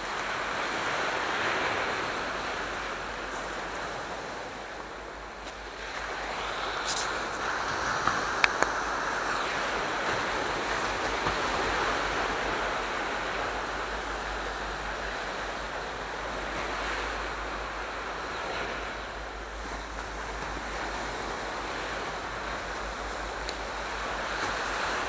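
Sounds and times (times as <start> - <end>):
waves washing on shore: 0.0 - 25.0.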